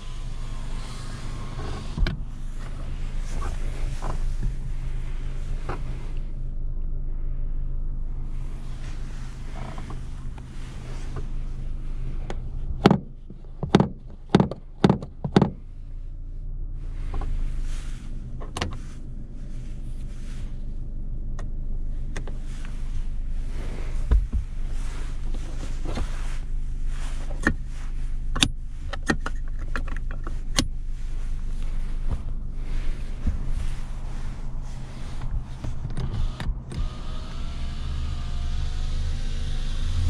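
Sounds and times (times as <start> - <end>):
car engine droning: 0.0 - 40.0.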